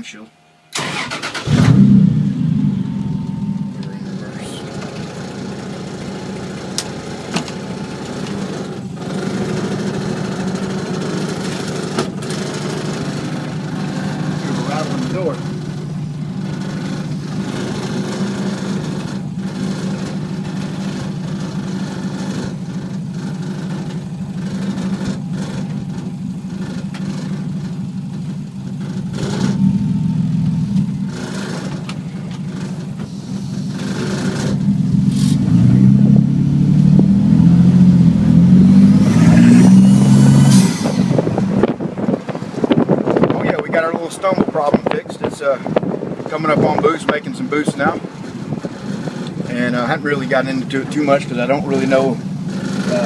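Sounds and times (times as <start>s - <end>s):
car engine revving: 0.7s - 53.0s.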